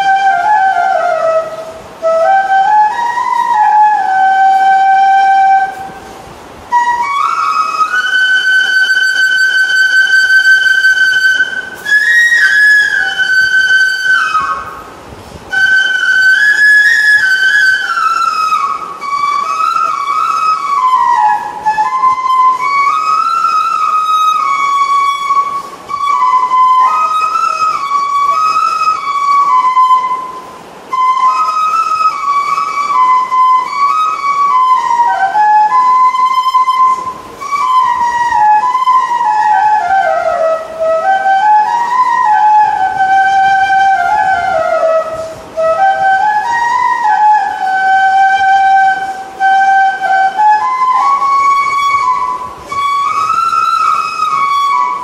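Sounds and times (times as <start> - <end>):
solo flute melody: 0.0 - 55.0.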